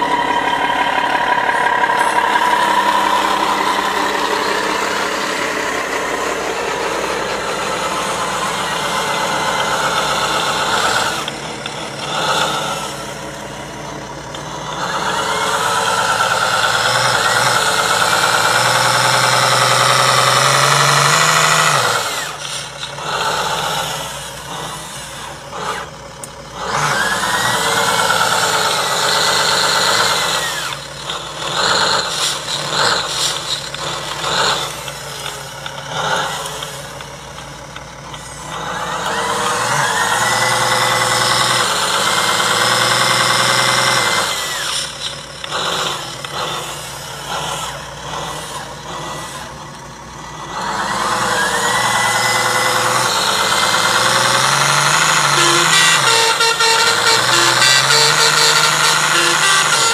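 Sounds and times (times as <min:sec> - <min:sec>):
toy truck motor surging: 0:00.0 - 0:59.9.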